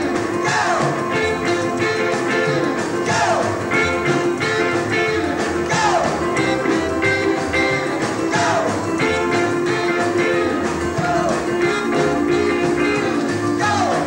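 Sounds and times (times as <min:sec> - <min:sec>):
drums: 0:00.0 - 0:14.0
electric guitar: 0:00.0 - 0:14.0
person singing: 0:00.0 - 0:14.0
saxophone: 0:00.0 - 0:14.0
upright double bass: 0:00.0 - 0:14.0.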